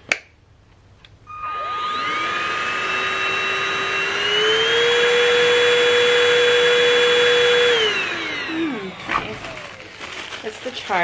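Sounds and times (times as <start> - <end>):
handheld vacuum motor whine: 1.3 - 11.0.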